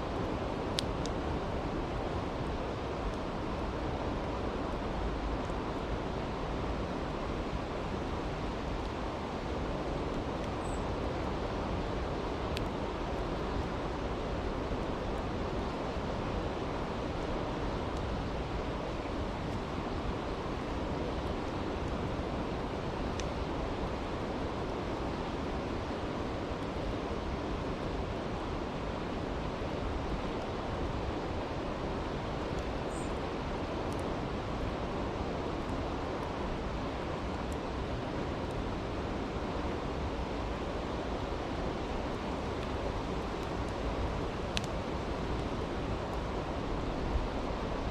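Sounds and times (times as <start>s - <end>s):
campfire crackles: 0.0s - 47.9s.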